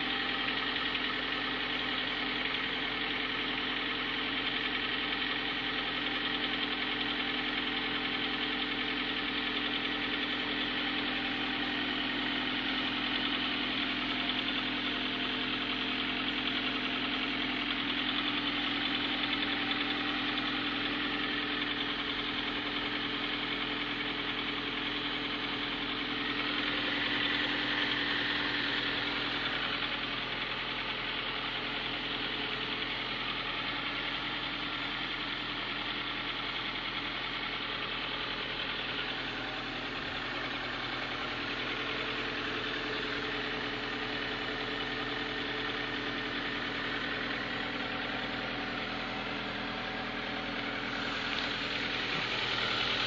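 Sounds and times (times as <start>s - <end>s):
car engine idling with piston knock: 0.0s - 53.0s.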